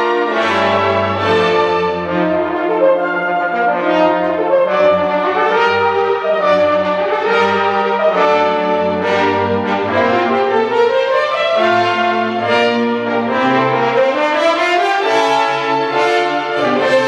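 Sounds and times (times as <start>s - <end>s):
french horns playing chords: 0.0s - 17.0s
symphony orchestra: 0.0s - 17.0s.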